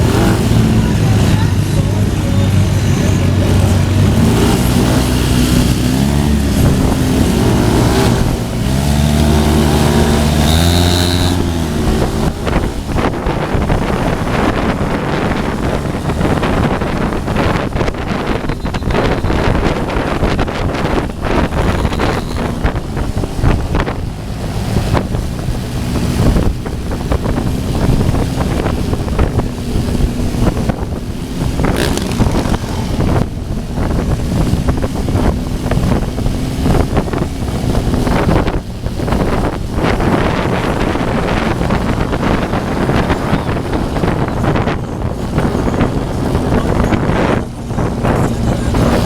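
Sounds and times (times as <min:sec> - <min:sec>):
motorcycle engines running: 0:00.0 - 0:49.0
wind rumble on microphone: 0:00.0 - 0:49.0.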